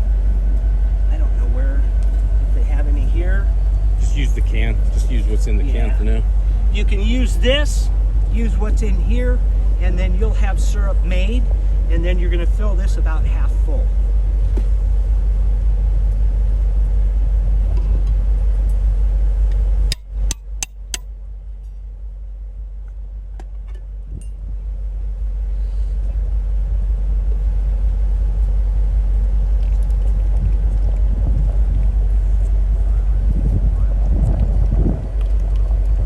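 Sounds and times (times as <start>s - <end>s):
wind rumbling on microphone: 0.0s - 20.0s, 23.6s - 36.0s.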